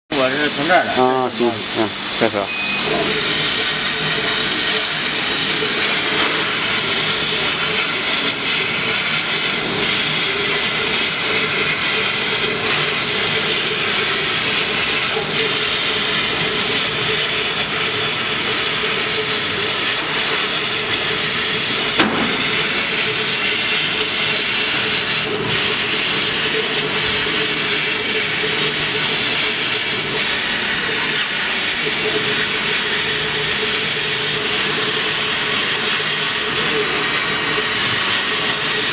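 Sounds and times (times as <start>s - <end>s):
machine hum: 0.1s - 38.9s.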